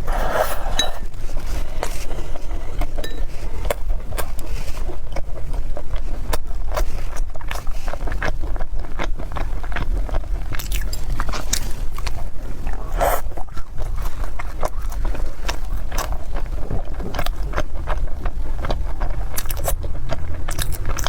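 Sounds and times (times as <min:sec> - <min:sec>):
biting and chewing: 0:00.0 - 0:21.0
steady low rumble: 0:00.0 - 0:21.0.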